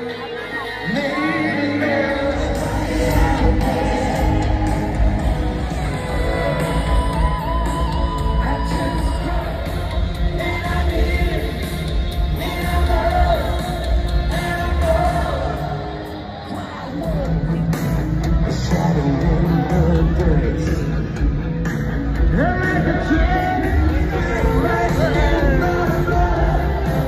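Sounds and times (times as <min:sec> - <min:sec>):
lead singer singing: 0:00.0 - 0:17.6, 0:22.3 - 0:27.0
live rock band playing: 0:00.0 - 0:27.0.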